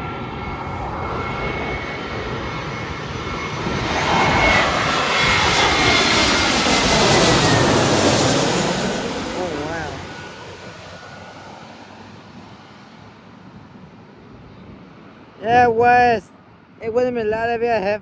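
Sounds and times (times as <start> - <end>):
jet airliner flying overhead: 0.0 - 18.0.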